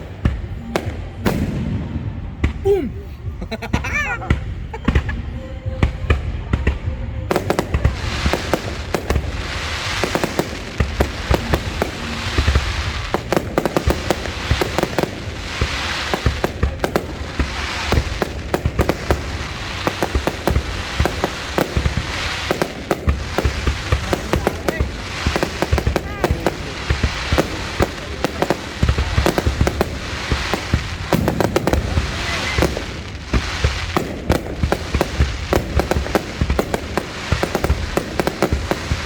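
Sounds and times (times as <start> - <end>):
fireworks bangs: 0.0 - 39.0
fireworks crackling hiss: 0.0 - 39.0.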